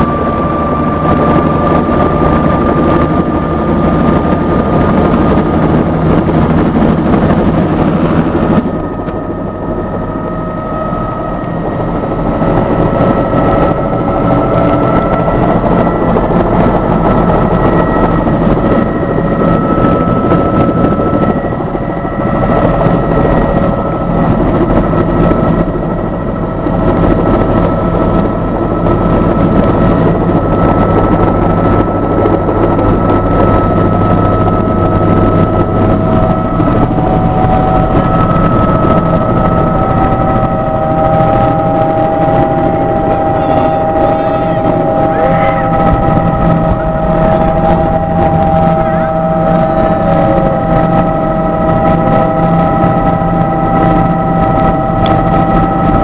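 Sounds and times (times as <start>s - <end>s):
helicopter turbine and rotor drone: 0.0s - 56.0s.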